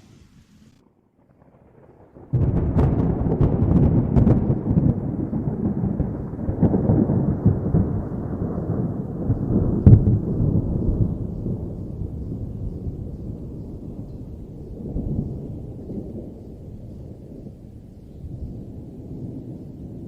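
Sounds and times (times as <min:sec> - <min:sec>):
thunder crack: 0:00.0 - 0:20.0
thunder rumbling: 0:00.0 - 0:20.0.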